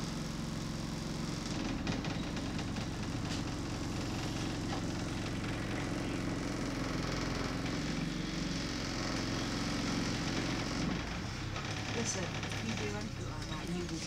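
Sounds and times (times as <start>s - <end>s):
bus engine idling: 0.0s - 14.0s.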